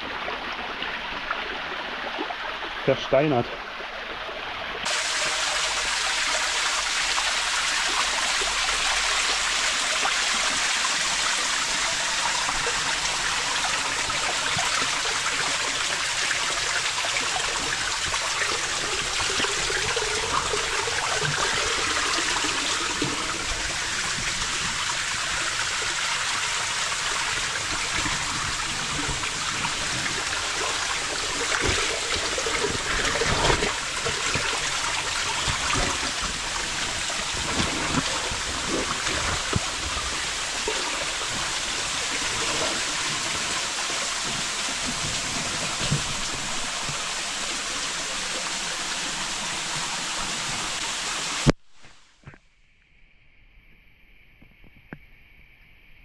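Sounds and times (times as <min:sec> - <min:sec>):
running and falling water: 0:00.0 - 0:51.6.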